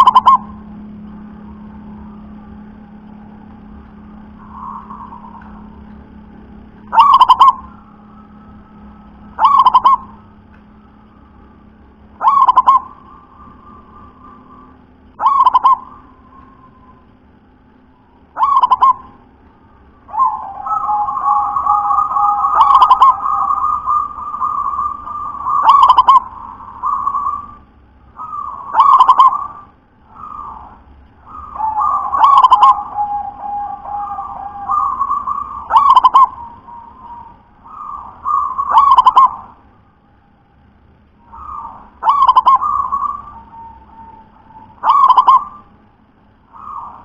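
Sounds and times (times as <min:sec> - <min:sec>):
dove cooing: 0:00.0 - 0:10.4, 0:11.2 - 0:17.0, 0:18.3 - 0:19.2, 0:19.9 - 0:39.7, 0:41.2 - 0:47.0.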